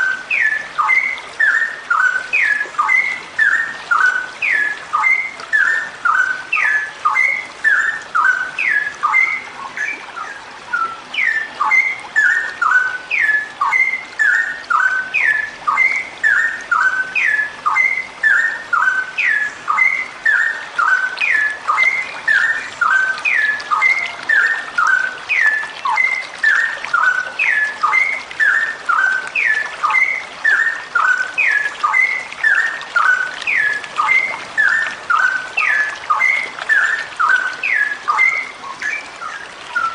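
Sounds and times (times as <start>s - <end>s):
songbird calling rapid phrases: 0.0s - 39.9s.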